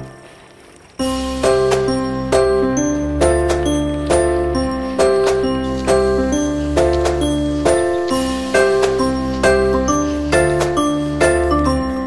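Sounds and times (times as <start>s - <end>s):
background music with steady beat: 1.0s - 12.0s.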